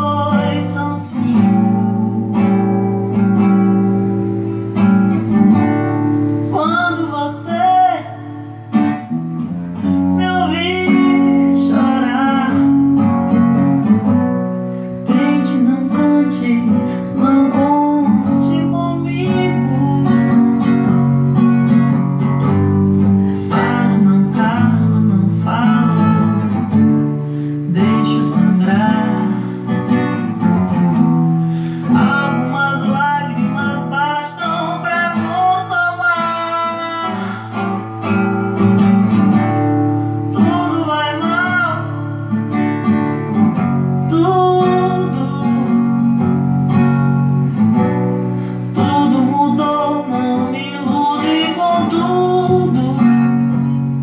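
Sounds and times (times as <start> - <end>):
strummed acoustic guitar music: 0.0 - 54.0.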